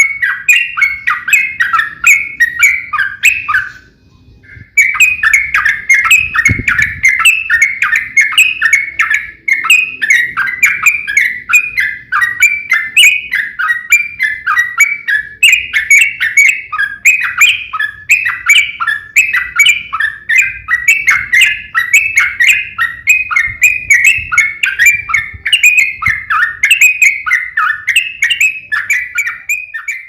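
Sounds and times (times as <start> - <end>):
bird chirping song: 0.0 - 30.0.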